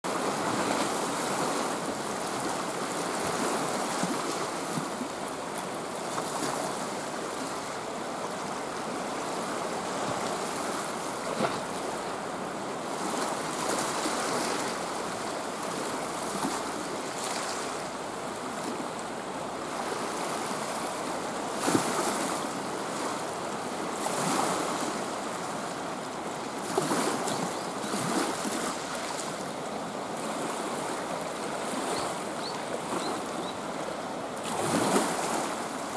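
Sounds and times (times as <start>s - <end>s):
waves washing against breakwater: 0.1s - 35.9s.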